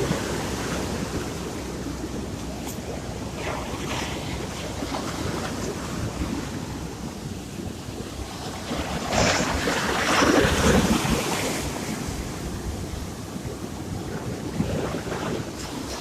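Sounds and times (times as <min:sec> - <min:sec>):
sea waves breaking: 0:00.0 - 0:16.0.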